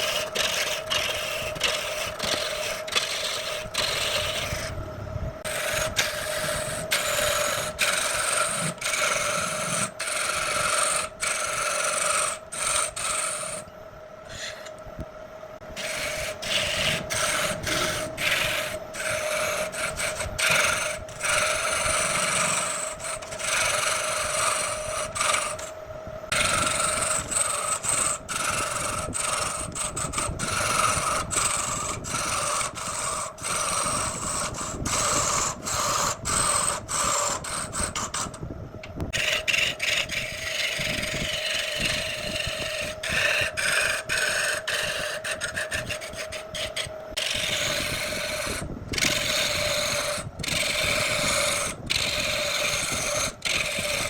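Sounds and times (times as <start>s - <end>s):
turning tool scraping wood: 0.0s - 4.8s, 5.4s - 14.8s, 15.7s - 54.0s
wood lathe humming: 0.0s - 4.8s, 5.4s - 14.8s, 15.6s - 54.0s.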